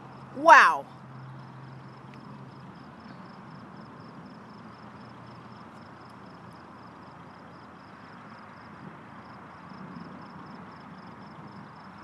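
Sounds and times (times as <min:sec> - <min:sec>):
night background hiss: 0:00.0 - 0:12.0.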